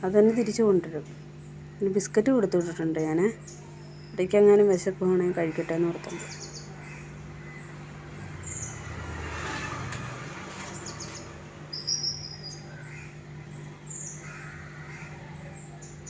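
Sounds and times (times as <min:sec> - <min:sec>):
steady low hum: 0:00.0 - 0:16.0
birds chirping: 0:00.1 - 0:09.2, 0:10.5 - 0:16.0.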